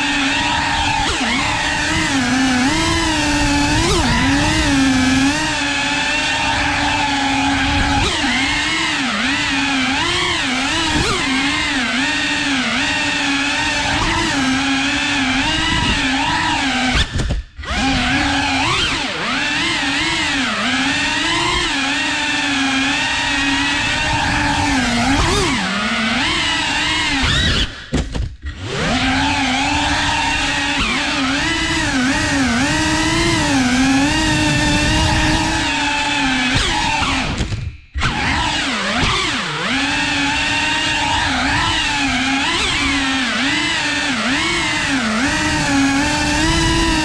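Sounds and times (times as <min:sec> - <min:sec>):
drone propellers whining: 0:00.0 - 0:47.0.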